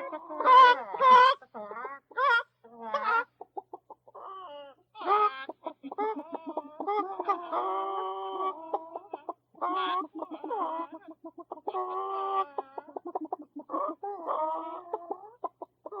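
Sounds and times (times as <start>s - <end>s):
chickens clucking: 0.0s - 16.0s
chickens squawking: 0.0s - 16.0s.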